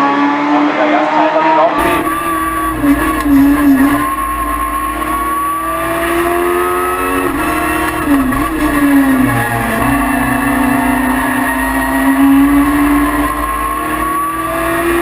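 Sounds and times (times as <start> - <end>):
high-revving racing engine: 0.0 - 15.0.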